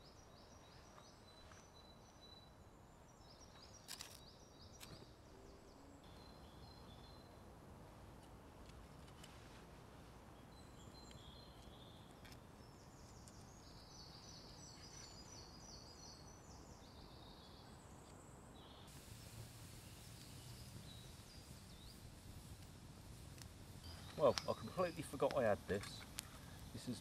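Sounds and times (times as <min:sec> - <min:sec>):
faint songbird trills: 0:00.0 - 0:07.4, 0:10.4 - 0:22.5, 0:23.1 - 0:25.7.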